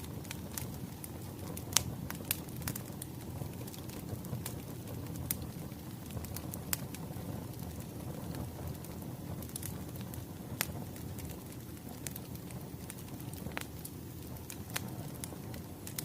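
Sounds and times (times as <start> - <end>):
firewood crackling: 0.0 - 16.0.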